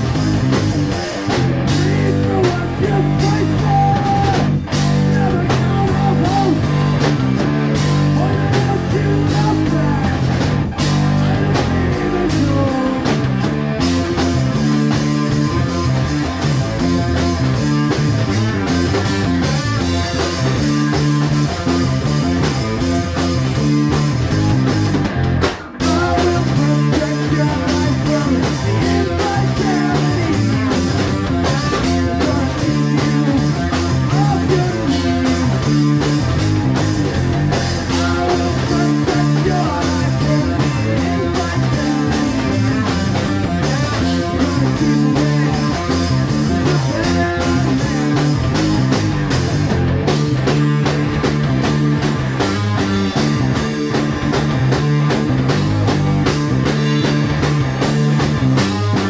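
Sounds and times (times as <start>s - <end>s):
drum kit: 0.0s - 59.0s
electric bass: 0.0s - 59.0s
electric guitar: 0.0s - 59.0s.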